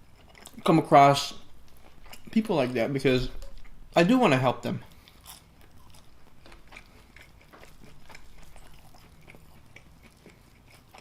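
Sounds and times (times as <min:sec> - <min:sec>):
chewing food: 0:00.0 - 0:04.0, 0:04.8 - 0:11.0.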